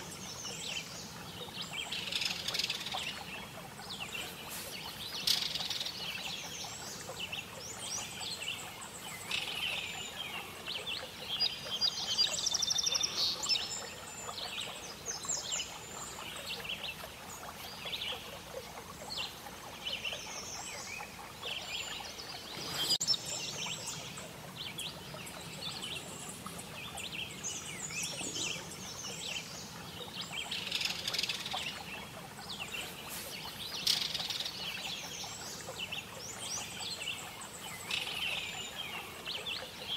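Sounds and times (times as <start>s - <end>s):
outdoor background hiss: 0.0s - 39.9s
small birds chirping: 0.0s - 39.9s.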